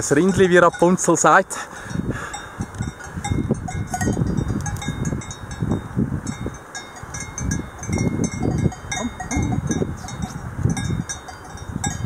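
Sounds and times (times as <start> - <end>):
cowbell clanking: 0.0 - 12.0.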